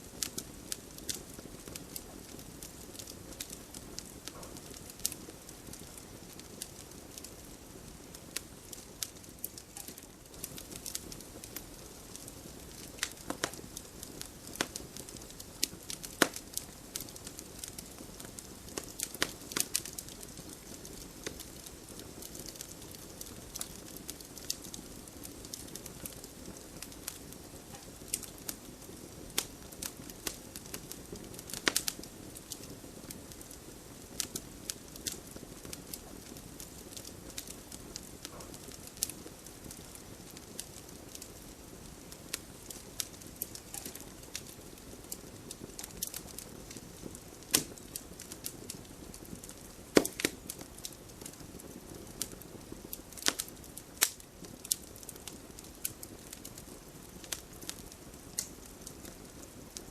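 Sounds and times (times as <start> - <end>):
campfire crackling and popping: 0.0 - 59.9
low rumble of flames: 0.0 - 59.9.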